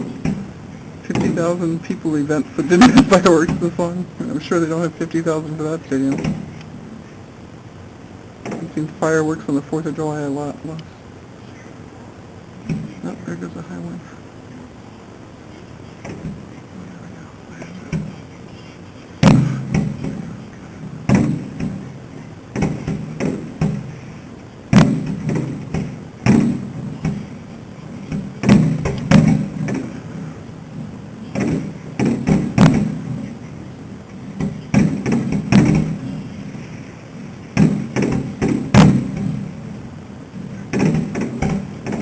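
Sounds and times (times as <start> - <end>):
fireworks booming: 0.0 - 9.6, 17.6 - 42.0.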